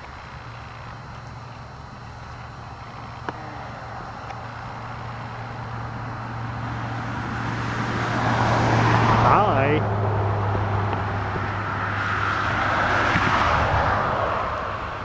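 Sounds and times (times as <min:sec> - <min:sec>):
steady low hum: 0:00.0 - 0:15.0
vehicle approaching on highway: 0:00.0 - 0:15.0.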